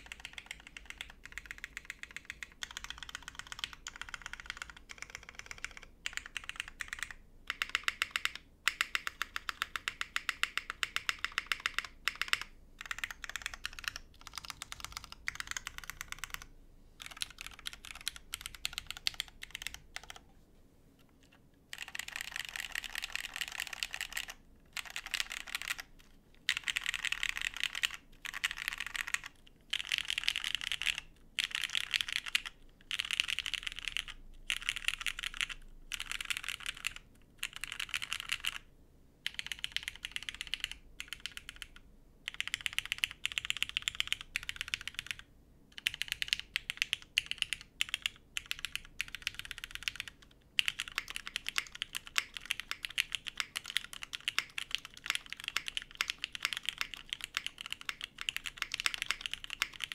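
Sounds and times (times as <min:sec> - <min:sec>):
typing on mechanical keyboard: 0:00.0 - 0:20.3, 0:21.2 - 0:59.9.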